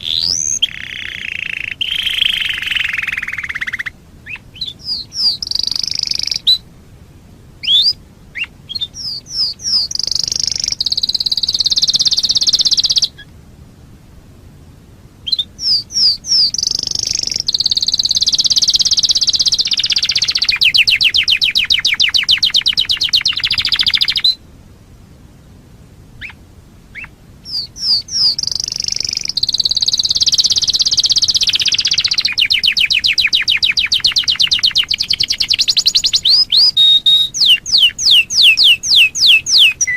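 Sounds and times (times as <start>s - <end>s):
canary singing trills: 0.0s - 6.7s, 7.6s - 13.3s, 15.2s - 24.4s, 26.2s - 39.9s.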